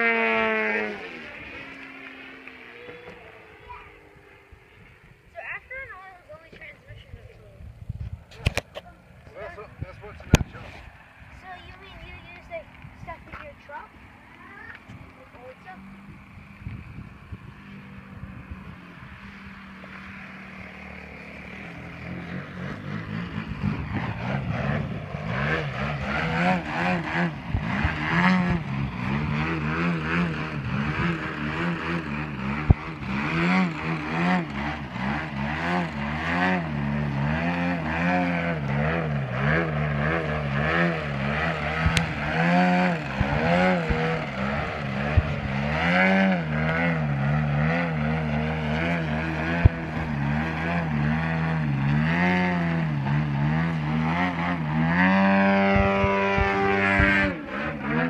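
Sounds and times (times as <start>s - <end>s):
model plane engine revving: 0.0s - 7.2s, 8.6s - 58.0s.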